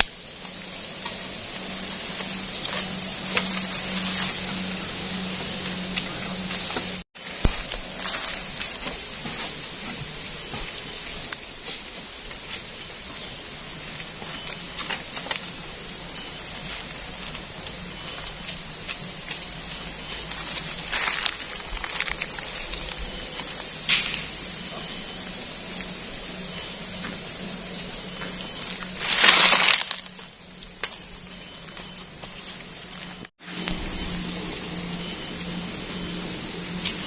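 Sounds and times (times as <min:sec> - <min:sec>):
insect chorus drone: 0:00.0 - 0:37.0.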